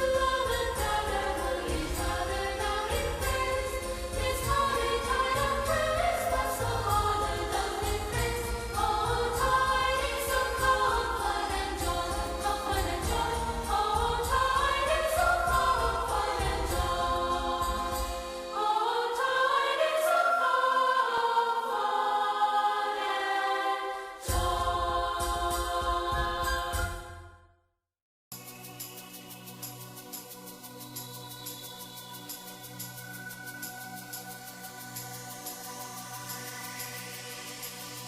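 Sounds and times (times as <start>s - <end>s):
choir-like singing: 0.0s - 27.4s, 29.5s - 38.0s.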